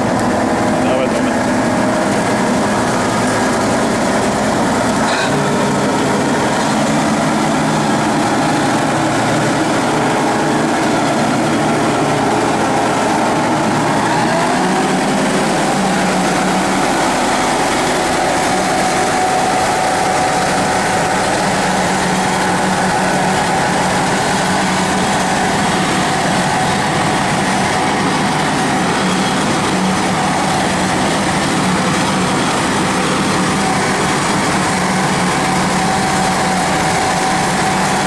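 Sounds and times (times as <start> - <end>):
farm vehicle engine droning: 0.0 - 38.0.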